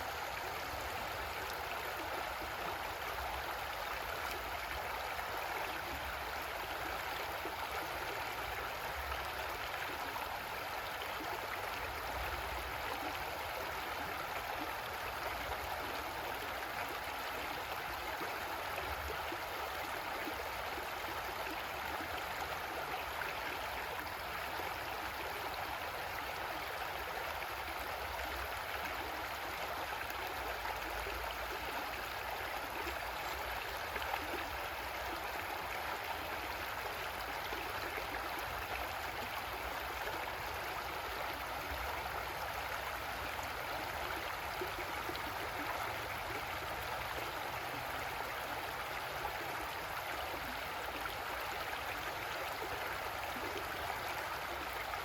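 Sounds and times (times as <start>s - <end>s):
creek water running over rocks: 0.0s - 55.0s.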